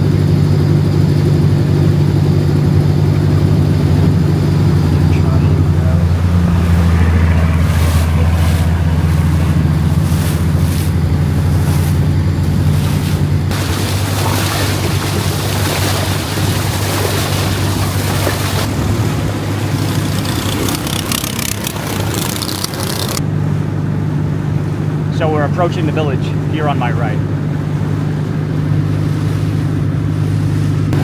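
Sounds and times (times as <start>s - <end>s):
boat engine running: 0.0s - 31.0s
water and wind rushing: 0.0s - 31.0s.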